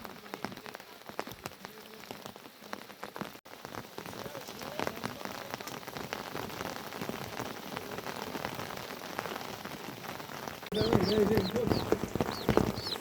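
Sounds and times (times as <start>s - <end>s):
steady rain patter: 0.0s - 13.0s.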